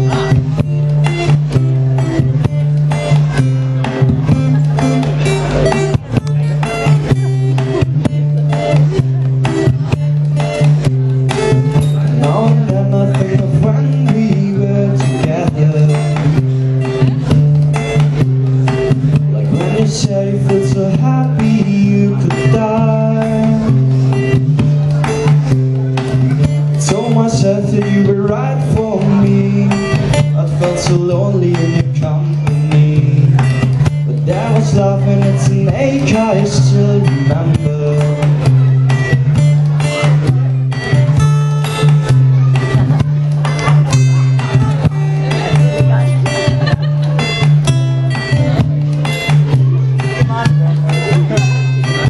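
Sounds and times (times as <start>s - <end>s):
acoustic guitar playing: 0.0s - 52.0s.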